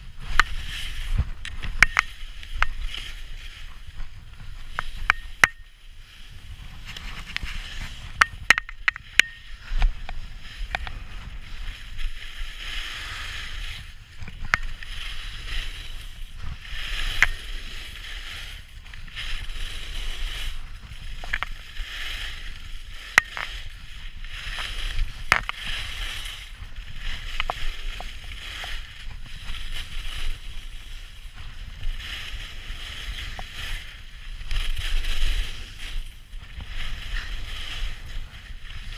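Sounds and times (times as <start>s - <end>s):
skis scraping on snow: 0.0s - 38.9s
wind rumble on microphone: 0.0s - 38.9s.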